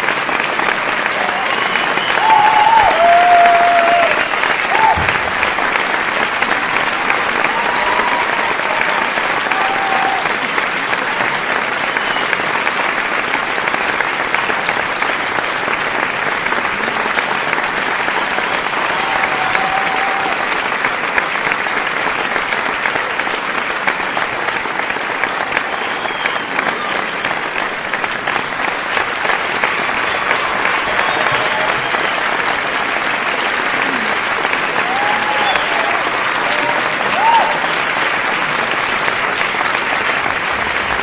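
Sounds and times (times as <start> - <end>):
large crowd applauding: 0.0 - 41.0.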